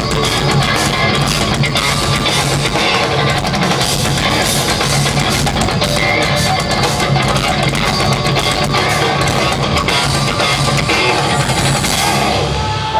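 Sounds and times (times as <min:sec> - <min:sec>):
drum kit: 0:00.0 - 0:12.9
electric guitars: 0:00.0 - 0:12.9.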